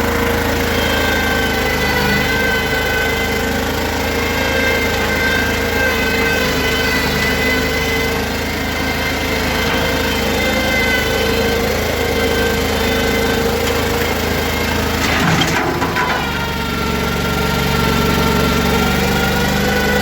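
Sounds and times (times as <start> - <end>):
loader engine running: 0.0 - 20.0.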